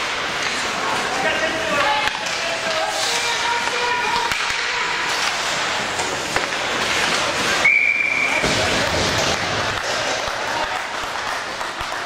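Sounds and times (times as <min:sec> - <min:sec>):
crowd noise: 0:00.0 - 0:12.0.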